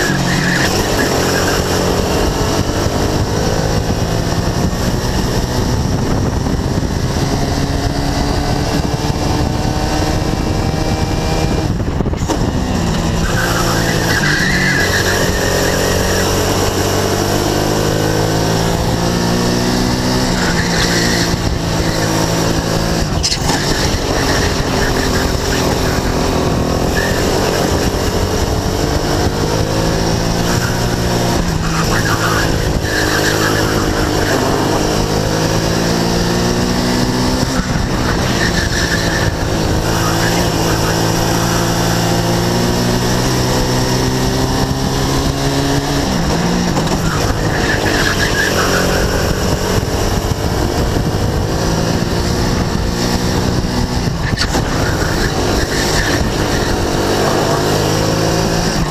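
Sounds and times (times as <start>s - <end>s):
kart engine at full throttle: 0.0s - 58.9s
wind and road noise: 0.0s - 58.9s.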